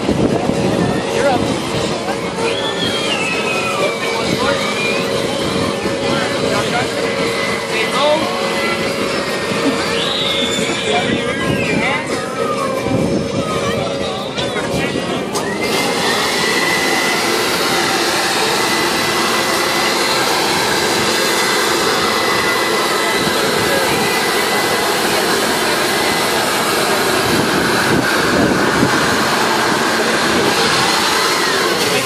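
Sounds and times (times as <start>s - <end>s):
electric air blower whining: 0.0s - 32.0s.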